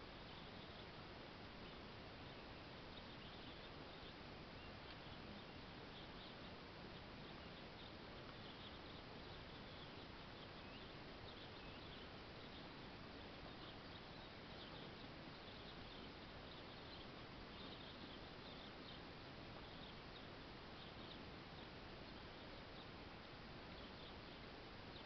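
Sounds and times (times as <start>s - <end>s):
faint high-pitched chirps: 0.0s - 25.0s
faint steady hiss: 0.0s - 25.0s.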